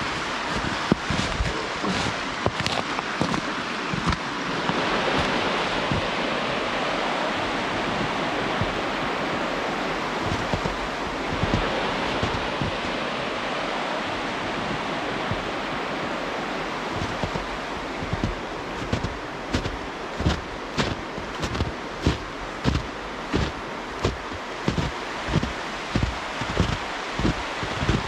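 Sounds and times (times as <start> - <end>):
footsteps crunching in snow: 0.0 - 6.5, 7.8 - 8.8, 10.0 - 13.2, 14.6 - 15.5, 16.9 - 28.0
river water rushing: 0.0 - 28.0.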